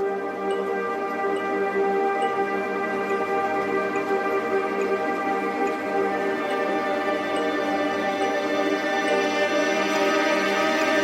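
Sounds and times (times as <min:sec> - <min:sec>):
calm ambient music: 0:00.0 - 0:11.0.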